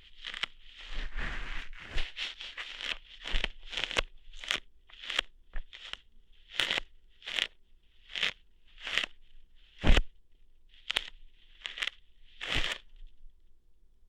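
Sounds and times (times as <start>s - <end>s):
ear hair plucking crackles: 0.0s - 10.1s, 10.7s - 13.0s.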